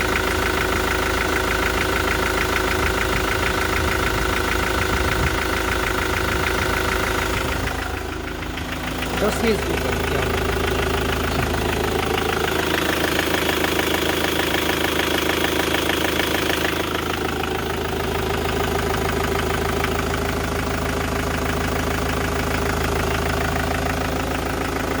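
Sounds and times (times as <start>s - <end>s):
engine idling with rapid knock: 0.0s - 25.0s.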